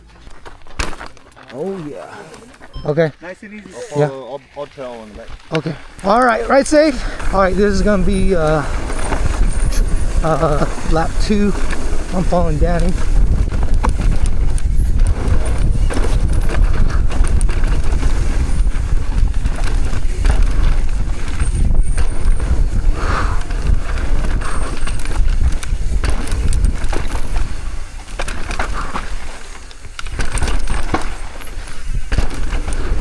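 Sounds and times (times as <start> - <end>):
bike rattling over bumps: 0.0 - 33.0
tyres on dirt: 0.0 - 33.0
wind rumbling over microphone: 6.0 - 33.0.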